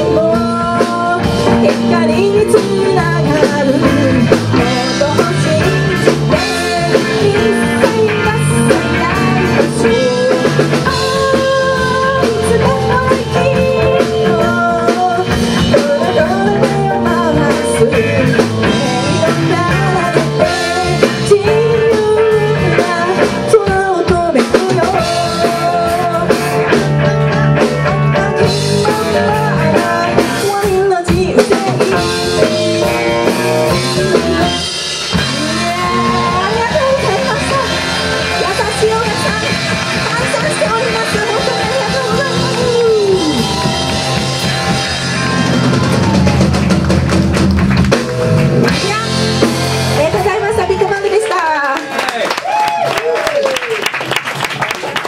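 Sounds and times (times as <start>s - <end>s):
woman singing lead: 0.0s - 46.4s
electric guitar: 0.0s - 51.8s
drum kit: 0.0s - 55.0s.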